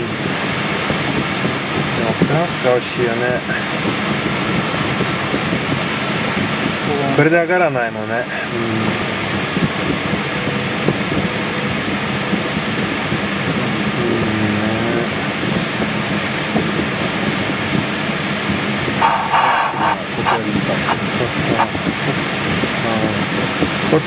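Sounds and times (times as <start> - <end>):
airflow rushing over canopy: 0.0 - 24.0.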